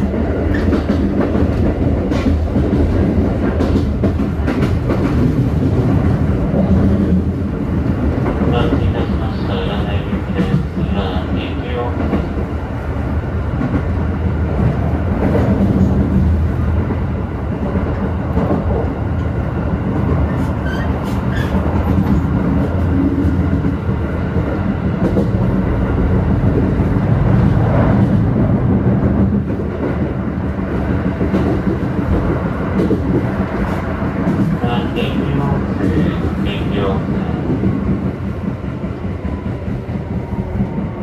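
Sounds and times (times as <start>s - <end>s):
rail joint clicks: 0.0s - 41.0s
train wheels rumbling on rails: 0.0s - 41.0s.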